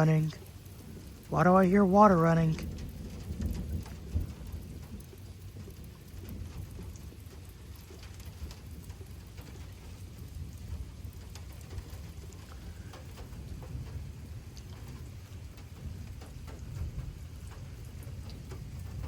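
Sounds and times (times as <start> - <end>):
low thunder rumble: 0.0 - 19.0
rain falling: 0.0 - 19.0
scattered drips: 0.0 - 19.0.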